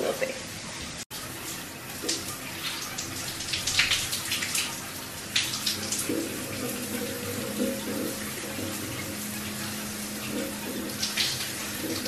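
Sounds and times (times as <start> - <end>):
tap water running and splashing: 0.0 - 12.0.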